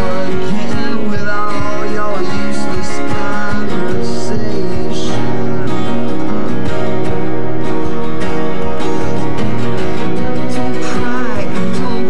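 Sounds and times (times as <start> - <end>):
acoustic guitars playing: 0.0 - 12.0.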